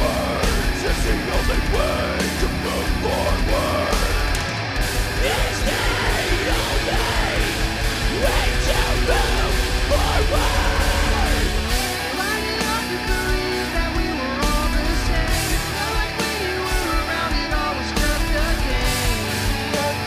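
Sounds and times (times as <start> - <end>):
fast drum beat: 0.0 - 20.0
heavy rock music: 0.0 - 20.0.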